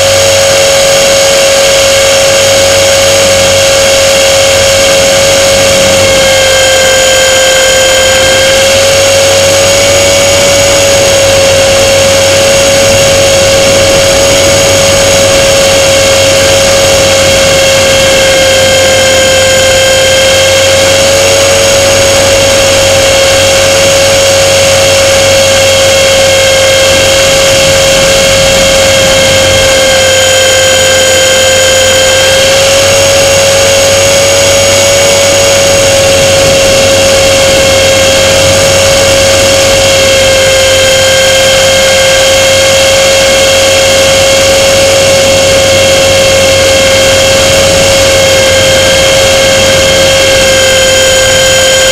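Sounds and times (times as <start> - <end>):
model airplane motor whining: 0.0 - 51.9
wind rushing: 2.2 - 33.5, 35.1 - 51.8.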